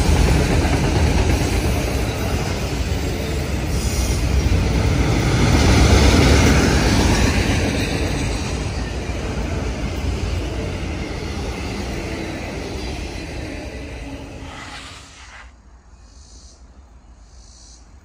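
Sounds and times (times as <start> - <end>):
train rolling past: 0.0 - 17.7.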